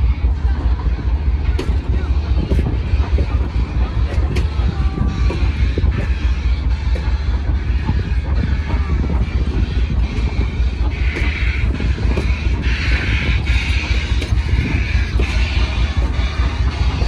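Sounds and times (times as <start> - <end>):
train wheels clacking over rail joints: 0.0 - 17.0
wind rumble on microphone: 0.0 - 17.0.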